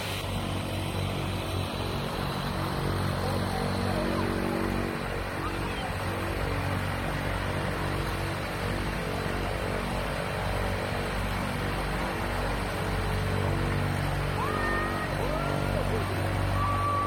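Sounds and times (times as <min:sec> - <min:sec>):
turboprop plane engine drone: 0:00.0 - 0:17.0.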